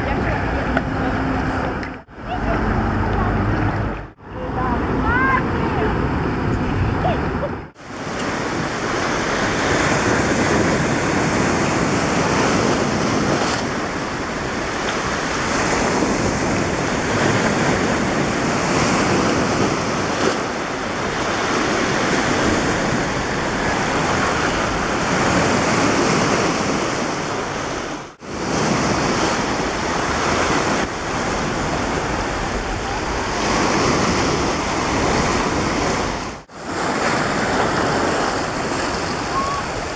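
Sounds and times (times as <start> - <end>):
sea surf breaking on shore: 0.0 - 39.9
wind buffeting microphone: 0.0 - 39.9.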